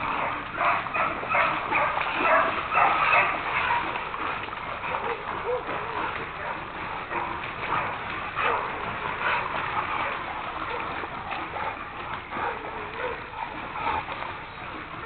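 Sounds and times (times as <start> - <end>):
dogs barking: 0.0 - 14.2.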